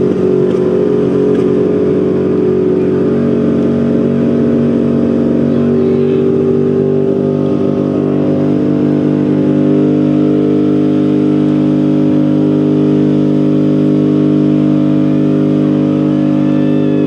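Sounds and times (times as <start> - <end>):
truck engine at high rev: 0.0 - 17.0.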